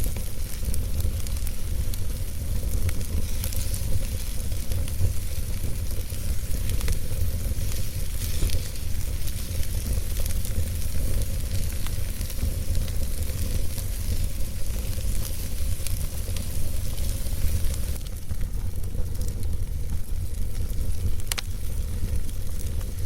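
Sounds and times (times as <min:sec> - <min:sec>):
burning logs crackling: 0:00.0 - 0:23.0
fire rumbling: 0:00.0 - 0:23.0.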